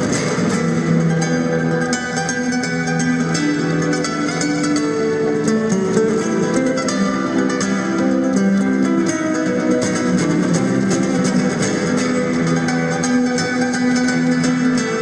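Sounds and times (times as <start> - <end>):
flamenco acoustic guitar: 0.0 - 15.0.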